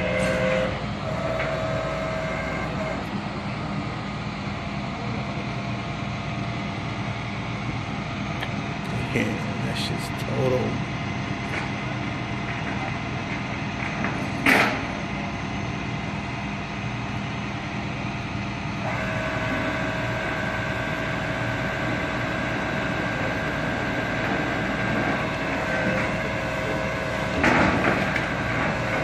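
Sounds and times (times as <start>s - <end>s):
steady whine: 0.0s - 29.0s.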